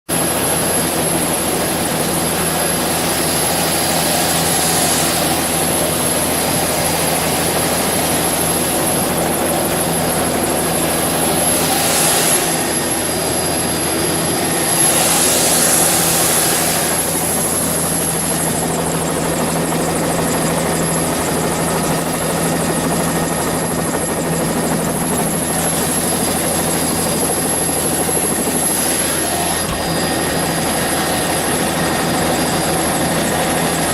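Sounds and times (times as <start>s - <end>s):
helicopter engine and rotor drone: 0.1s - 33.9s.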